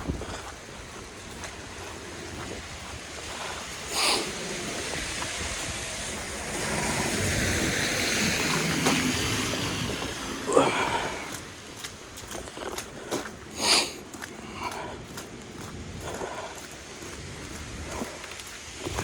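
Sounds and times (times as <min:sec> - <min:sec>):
wind and snow rushing: 0:00.0 - 0:19.0.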